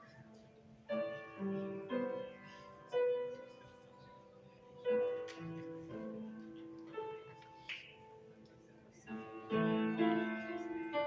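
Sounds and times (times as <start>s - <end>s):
slow grand piano notes: 0.0s - 11.0s.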